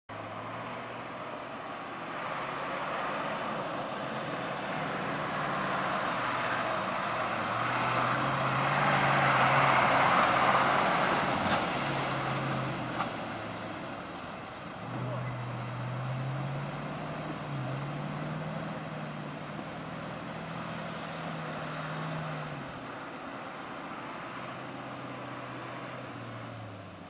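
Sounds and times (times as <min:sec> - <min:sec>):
truck diesel engine driving: 0:00.1 - 0:27.0.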